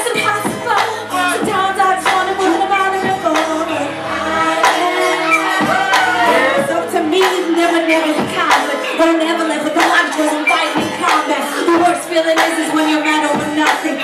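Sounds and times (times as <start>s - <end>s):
hip hop beat with drums: 0.0s - 14.0s.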